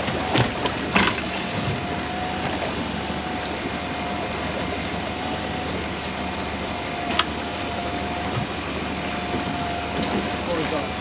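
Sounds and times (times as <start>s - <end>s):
boat machinery running: 0.0s - 11.0s
faint constant whine: 0.0s - 11.0s.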